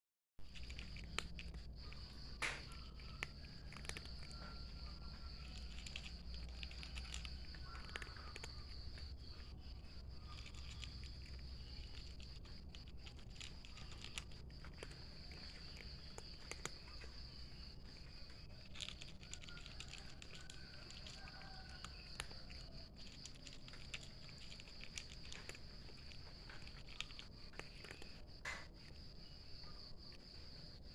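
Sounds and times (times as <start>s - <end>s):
cat chewing food: 0.4s - 30.7s
insects chirring: 0.4s - 30.9s.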